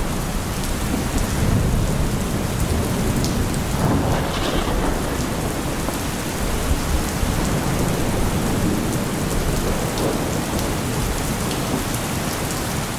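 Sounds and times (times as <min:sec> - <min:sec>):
low rumble of thunder: 0:00.0 - 0:12.9
rain pattering: 0:00.0 - 0:12.9.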